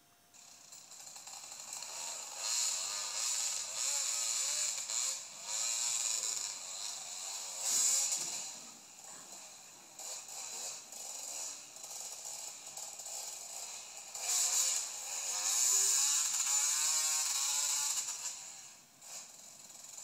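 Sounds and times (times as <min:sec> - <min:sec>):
dirt bike engine revving: 0:00.4 - 0:20.0.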